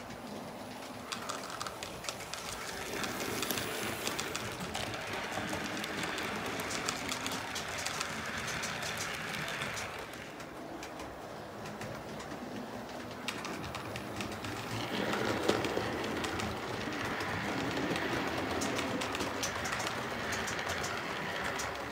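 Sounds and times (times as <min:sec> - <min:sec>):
model train rolling on track: 0:00.0 - 0:21.9.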